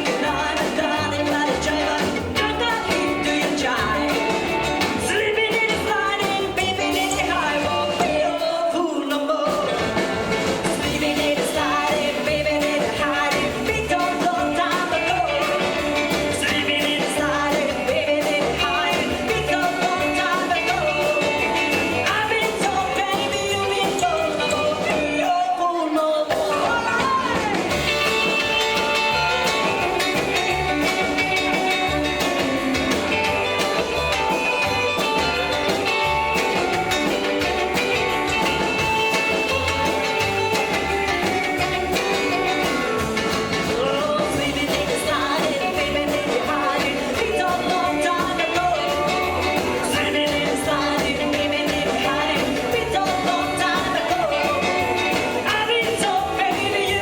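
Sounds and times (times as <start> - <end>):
rockabilly band playing: 0.0 - 57.0
sliding guitar line: 0.0 - 57.0.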